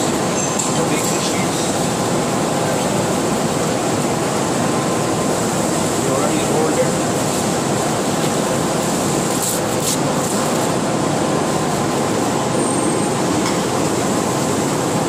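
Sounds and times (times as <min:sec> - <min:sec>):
kitchen ventilation and machinery: 0:00.0 - 0:15.0.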